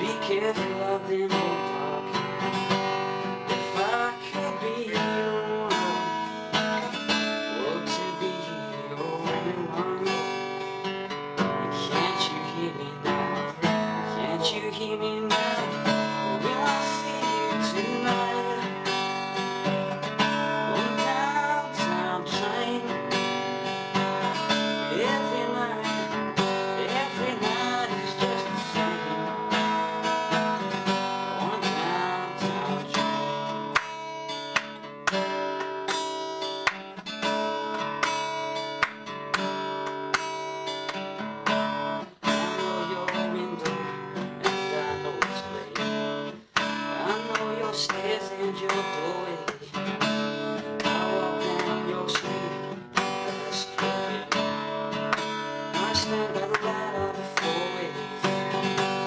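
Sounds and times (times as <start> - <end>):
man singing: 0.0 - 33.8, 41.4 - 59.0
strummed acoustic guitar: 0.0 - 59.0.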